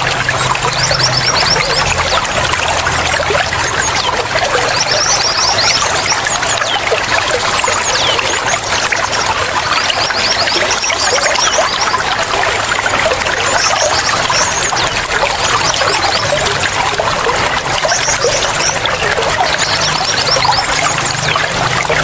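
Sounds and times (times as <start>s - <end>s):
small birds chirping: 0.0s - 22.0s
water trickling: 0.0s - 22.0s.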